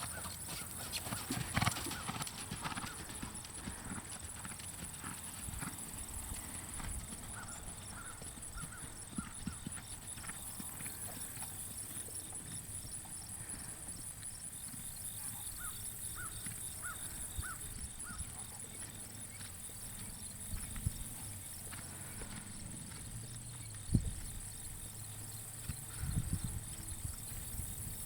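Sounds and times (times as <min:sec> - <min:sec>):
horse hooves thudding on ground: 0:00.0 - 0:28.0.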